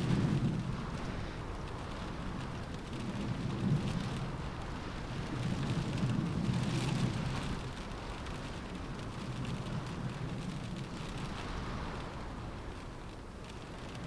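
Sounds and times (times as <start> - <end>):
steady rain: 0.0 - 14.0
wind gusts: 0.0 - 14.0.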